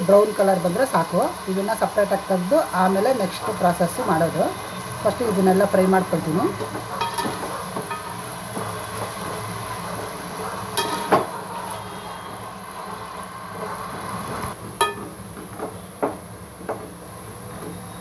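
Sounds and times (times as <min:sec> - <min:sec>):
potatoes sizzling in hot oil: 0:00.0 - 0:18.0.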